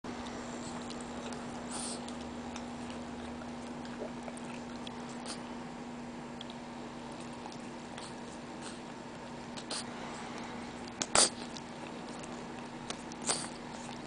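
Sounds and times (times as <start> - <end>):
steady hum: 0.1 - 14.0.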